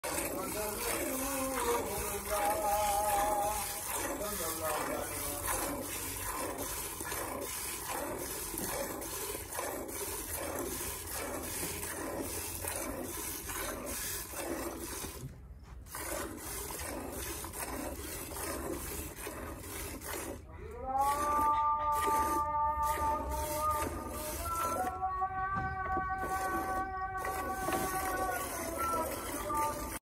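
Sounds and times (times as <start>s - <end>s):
milk squirting into steel bucket: 0.0s - 25.1s, 25.8s - 30.0s.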